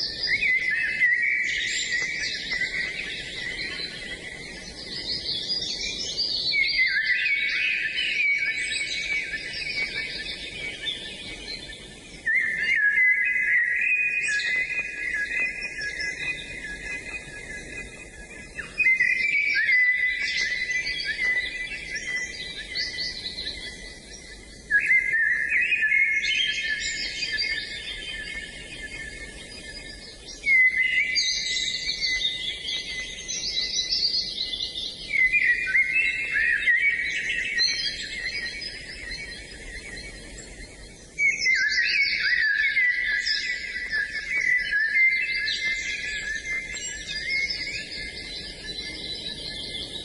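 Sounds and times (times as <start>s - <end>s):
songbirds twittering: 0.0s - 50.0s.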